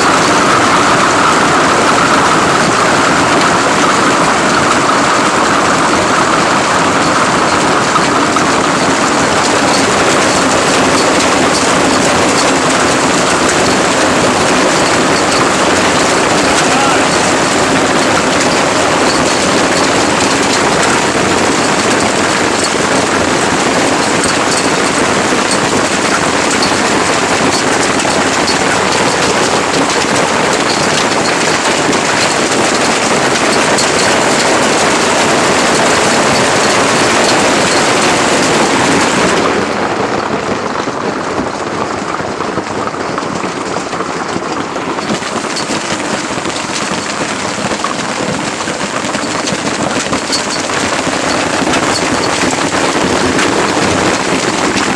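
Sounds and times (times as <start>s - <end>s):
hail and rain pelting down: 0.0s - 54.9s.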